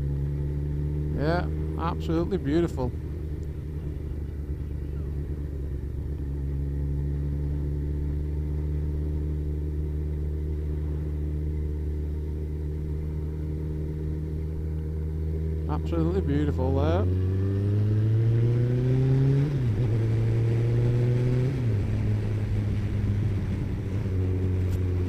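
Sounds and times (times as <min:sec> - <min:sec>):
motorcycle engine droning: 0:00.0 - 0:25.0.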